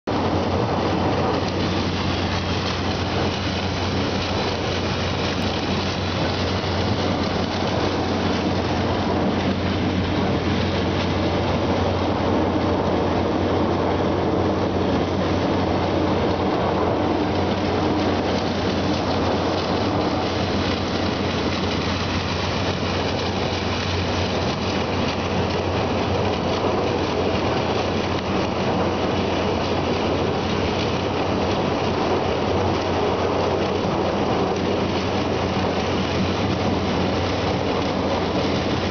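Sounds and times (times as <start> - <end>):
rushing churning water: 0.0 - 38.9
low machine hum: 0.1 - 38.9.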